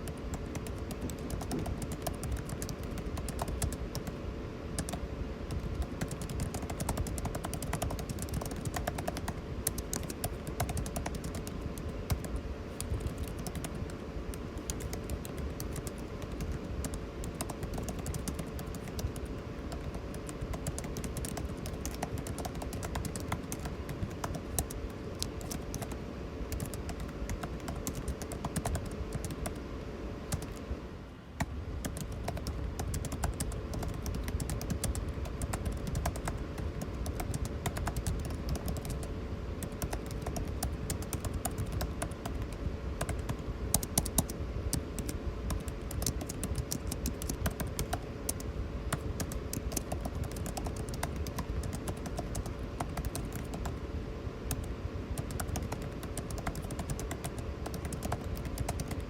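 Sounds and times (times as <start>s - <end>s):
typing on computer keyboard: 0.0s - 4.2s, 4.8s - 29.6s, 30.3s - 30.6s, 31.4s - 53.8s, 54.5s - 59.0s
air conditioning hum: 0.0s - 59.0s.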